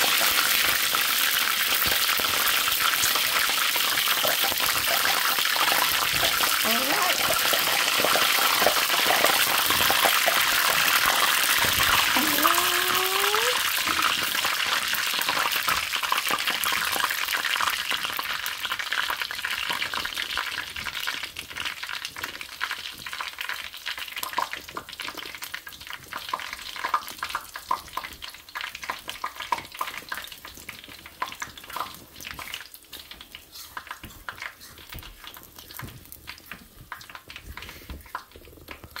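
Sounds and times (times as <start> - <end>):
chicken frying in hot oil: 0.0 - 39.0.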